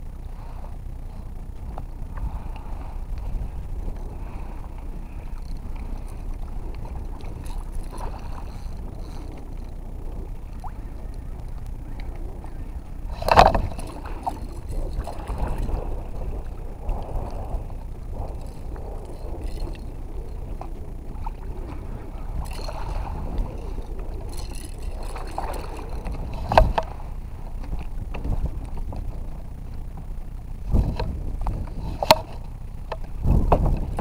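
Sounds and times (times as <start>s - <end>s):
water and wind against hull: 0.0s - 34.0s.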